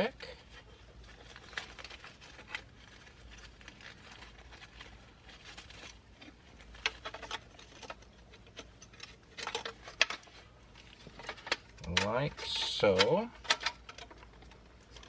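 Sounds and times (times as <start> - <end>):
plastic rustling and scraping: 0.0 - 15.0.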